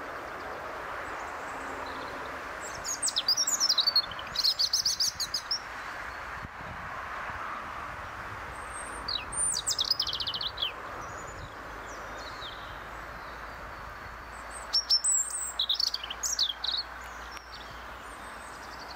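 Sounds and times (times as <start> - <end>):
robin singing: 0.0 - 6.3, 8.5 - 18.9.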